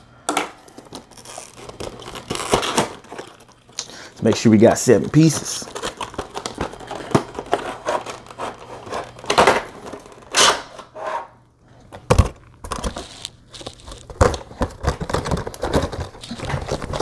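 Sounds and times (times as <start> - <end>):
plastic packaging crinkling: 0.6 - 10.4, 12.1 - 17.0.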